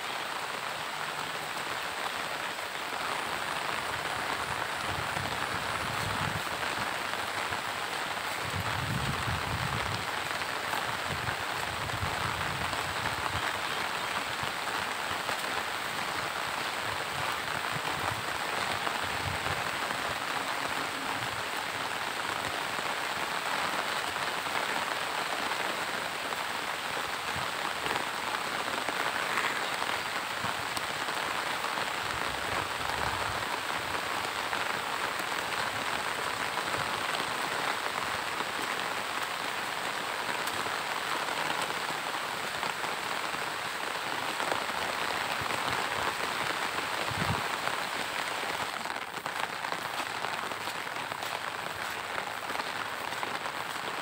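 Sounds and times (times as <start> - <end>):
rain on leaves and ground: 0.0 - 54.0.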